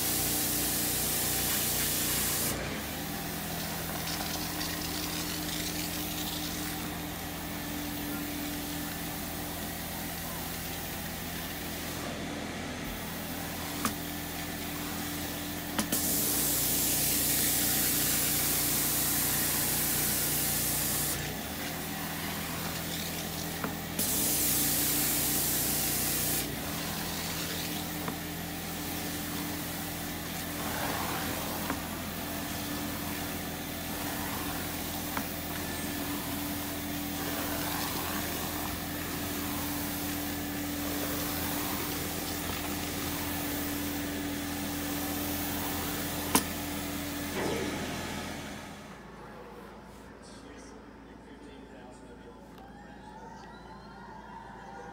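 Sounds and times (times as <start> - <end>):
carpet cleaner motor hum: 0.0 - 50.2.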